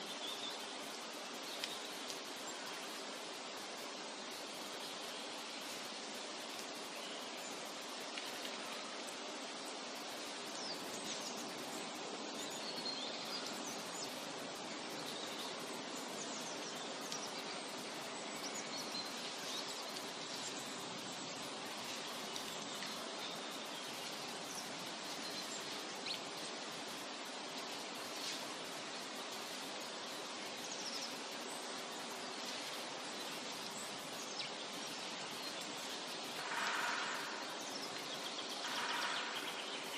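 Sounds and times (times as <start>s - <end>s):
steady forest background noise: 0.0s - 39.9s.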